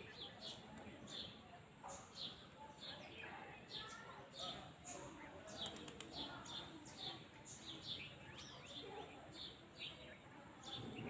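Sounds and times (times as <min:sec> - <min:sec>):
faint outdoor background noise: 0:00.0 - 0:11.0
small birds chirping: 0:00.0 - 0:11.0.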